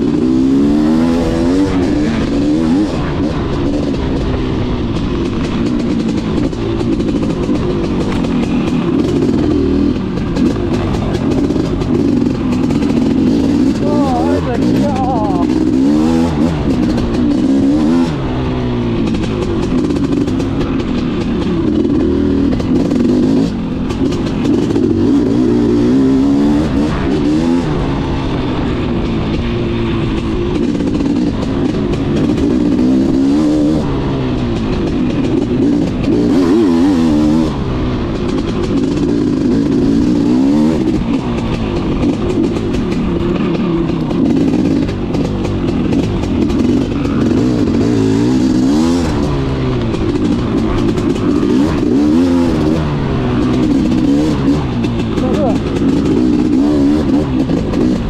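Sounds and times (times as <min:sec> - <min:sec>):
dirt bike engine revving: 0:00.0 - 0:58.0
wind and riding noise: 0:00.0 - 0:58.0.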